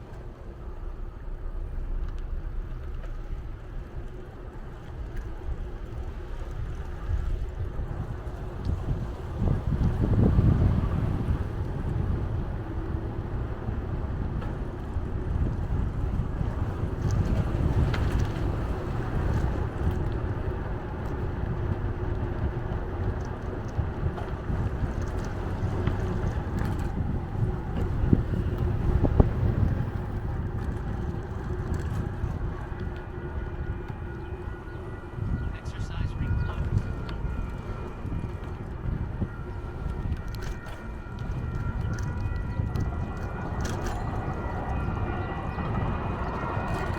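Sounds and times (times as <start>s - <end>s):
bicycle tyre rumble: 0.0s - 46.9s
wind buffeting microphone: 0.0s - 46.9s.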